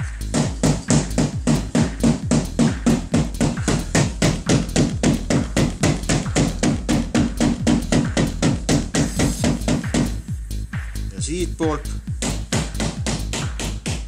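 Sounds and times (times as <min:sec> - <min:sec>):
electronic music with fast beat: 0:00.0 - 0:14.0.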